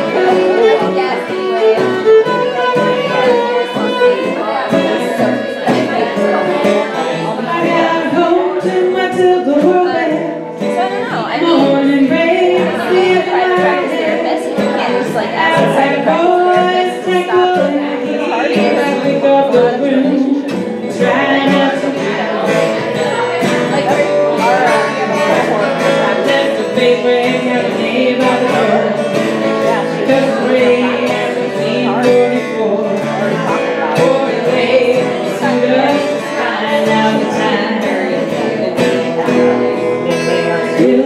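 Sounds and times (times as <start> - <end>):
fiddle playing: 0.0 - 38.0
strummed acoustic guitar: 0.0 - 41.0
woman singing: 0.0 - 41.0.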